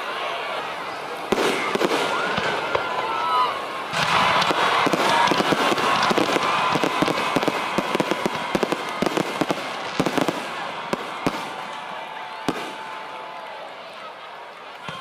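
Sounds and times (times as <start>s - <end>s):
fireworks crackling and popping: 1.3s - 13.8s.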